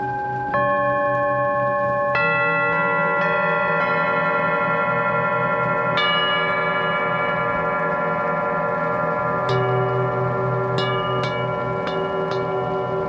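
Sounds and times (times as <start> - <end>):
singing bowls and bells ringing: 0.0 - 13.0.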